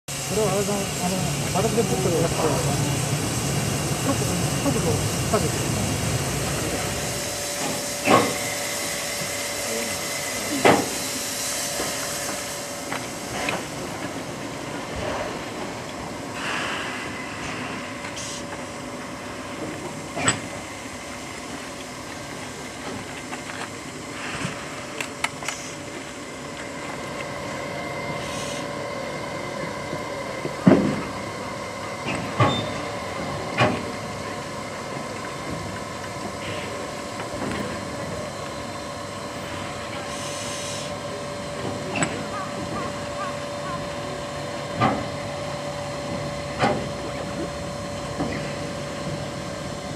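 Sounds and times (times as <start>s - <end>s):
locomotive steam hissing: 0.1s - 49.9s.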